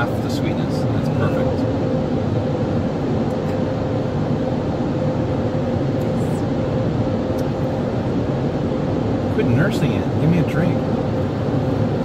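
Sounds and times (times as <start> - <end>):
car wash machinery running: 0.0 - 12.0
steady hum: 0.0 - 12.0.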